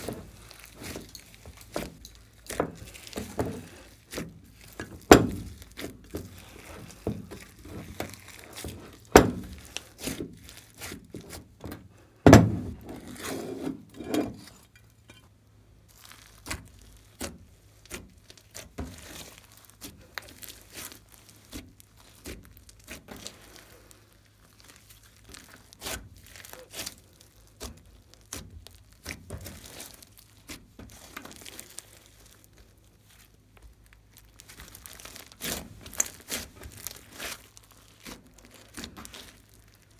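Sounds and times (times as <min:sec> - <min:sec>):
slime squished by hands: 0:00.0 - 0:13.3, 0:15.8 - 0:39.9.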